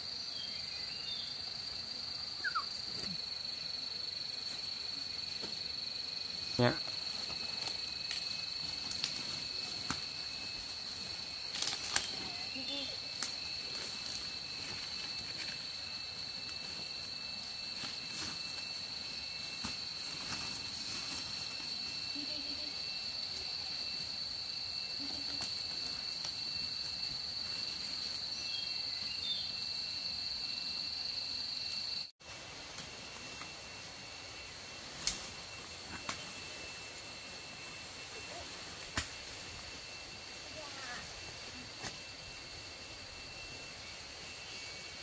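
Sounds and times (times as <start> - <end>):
insect chorus droning: 0.0 - 45.0.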